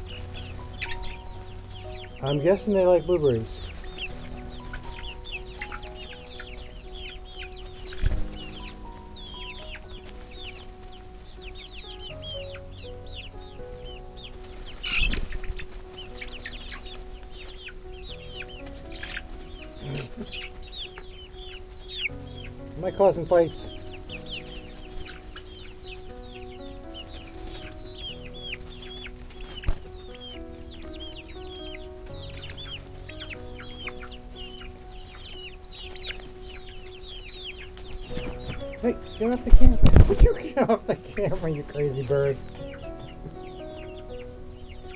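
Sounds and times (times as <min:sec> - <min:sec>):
chicks peeping: 0:00.0 - 0:44.9
soft background music: 0:00.0 - 0:44.9.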